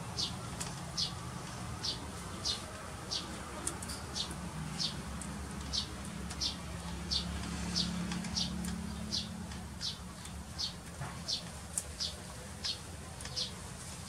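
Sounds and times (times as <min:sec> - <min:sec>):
bird chirping repeatedly: 0:00.0 - 0:13.6.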